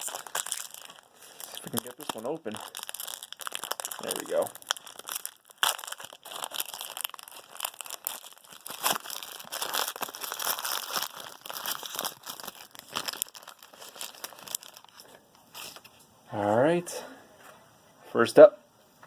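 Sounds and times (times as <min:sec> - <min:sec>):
foil wrapper crinkling: 0:00.0 - 0:15.9.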